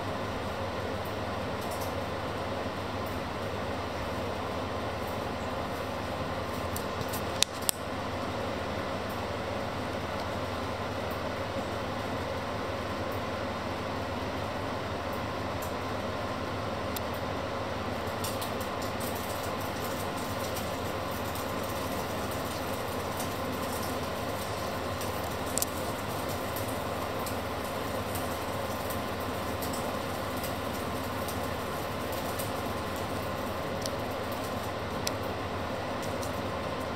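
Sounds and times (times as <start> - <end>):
electric fan whirring: 0.0 - 36.9.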